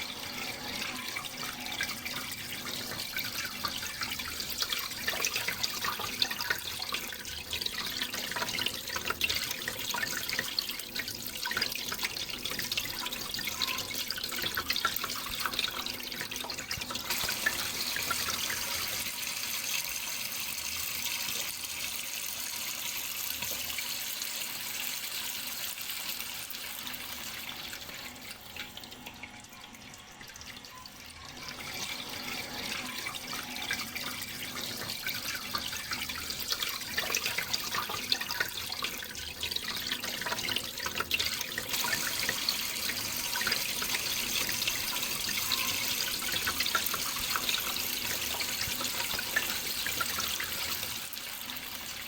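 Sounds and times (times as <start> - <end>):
running water splashing and trickling: 0.0 - 52.0.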